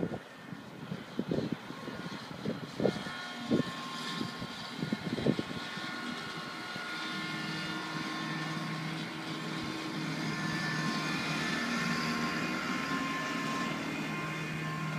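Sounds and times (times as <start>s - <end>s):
turf machine engine running: 1.2s - 14.9s.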